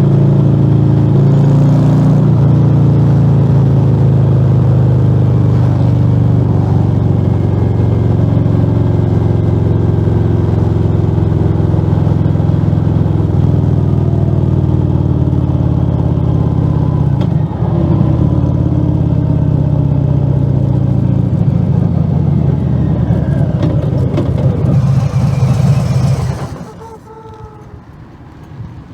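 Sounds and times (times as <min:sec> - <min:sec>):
loud motorcycle engine running: 0:00.0 - 0:27.7.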